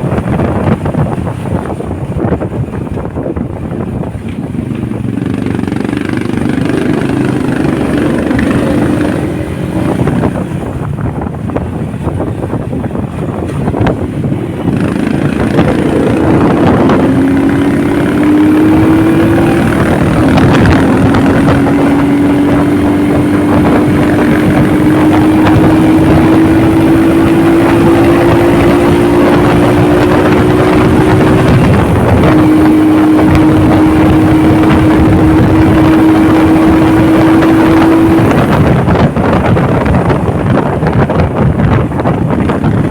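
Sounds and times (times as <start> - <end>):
motorcycle engine running: 0.0 - 42.9
wind noise: 0.0 - 42.9.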